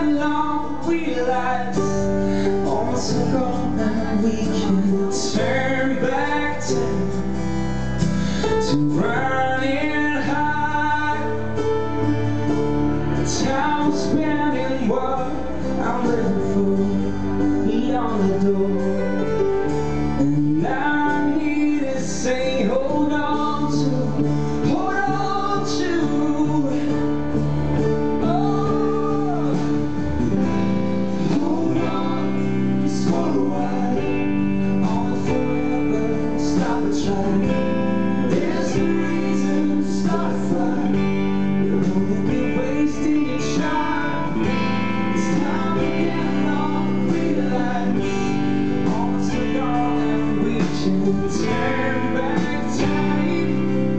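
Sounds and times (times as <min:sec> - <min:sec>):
live pop-rock band playing: 0:00.0 - 0:53.9
male singer singing: 0:00.0 - 0:53.9.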